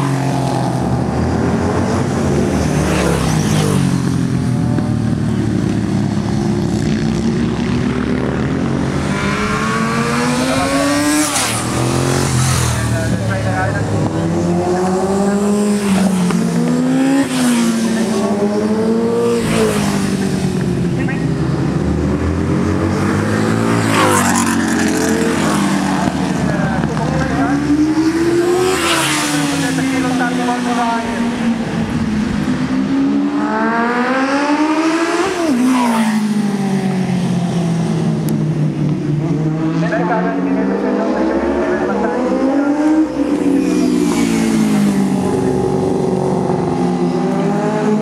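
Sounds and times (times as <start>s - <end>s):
racing motorcycles at full throttle: 0.0s - 48.0s.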